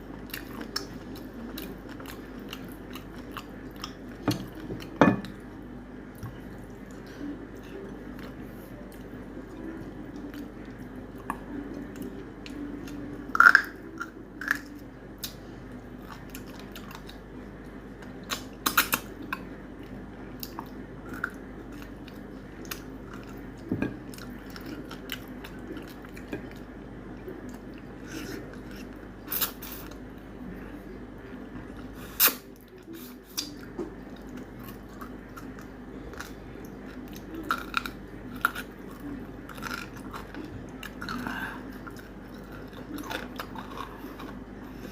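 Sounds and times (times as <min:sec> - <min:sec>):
person chewing food: 0:00.0 - 0:30.3, 0:31.6 - 0:44.9.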